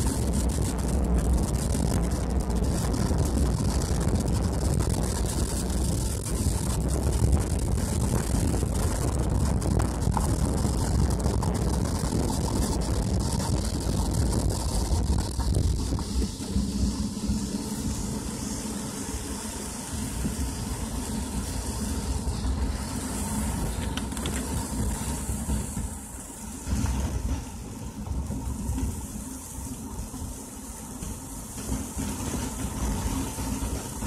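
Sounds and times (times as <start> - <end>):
engine and road rumble: 0.0 - 34.0
tyres and rain hissing: 0.0 - 34.0.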